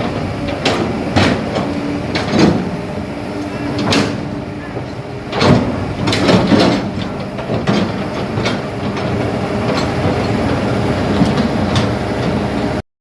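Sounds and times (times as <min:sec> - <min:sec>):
metallic clanks and knocks: 0:00.0 - 0:12.4
excavator diesel engine running: 0:00.0 - 0:12.8.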